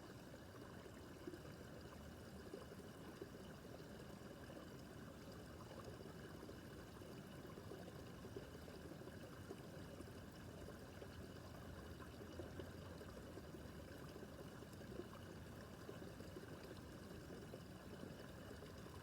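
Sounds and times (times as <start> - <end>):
brook babbling over stones: 0.0 - 19.0.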